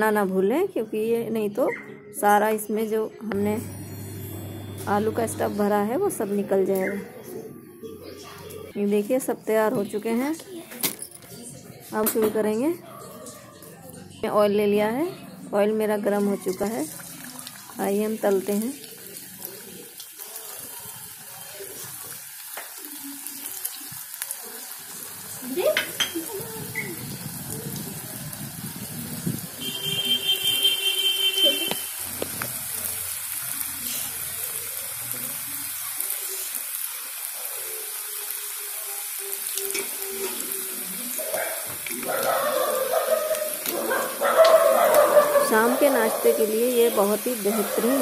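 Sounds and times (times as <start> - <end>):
food deep-frying in oil: 8.4 - 12.8, 13.9 - 48.0.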